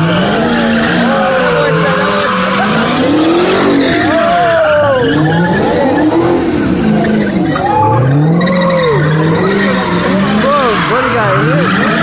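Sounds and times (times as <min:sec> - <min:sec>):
car engine revving: 0:00.0 - 0:12.0
tyres squealing on pavement: 0:00.0 - 0:12.0.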